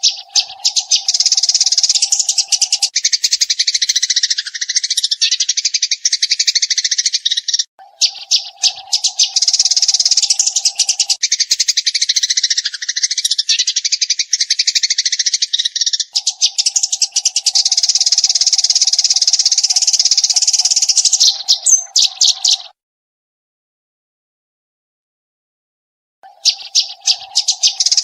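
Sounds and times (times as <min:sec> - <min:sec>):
sparrows chattering chirps: 0:00.0 - 0:22.8, 0:26.2 - 0:28.0.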